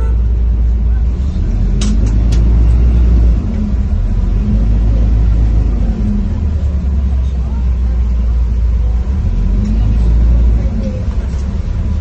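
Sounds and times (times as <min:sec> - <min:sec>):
road vehicle noise: 0:00.0 - 0:12.0.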